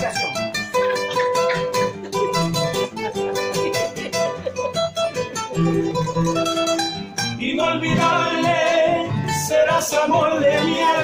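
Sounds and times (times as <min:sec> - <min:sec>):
acoustic guitars playing waltz: 0:00.0 - 0:11.0.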